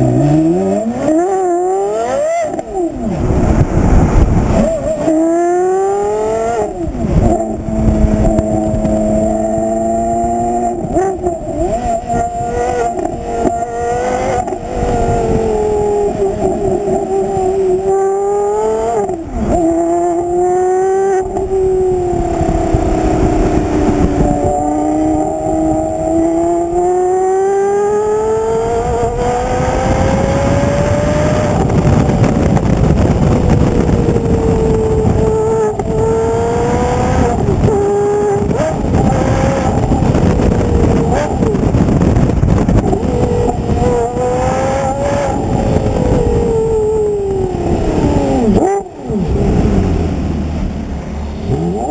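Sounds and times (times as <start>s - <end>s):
sports car engine revving: 0.0s - 51.9s
wind and road rush: 0.0s - 51.9s.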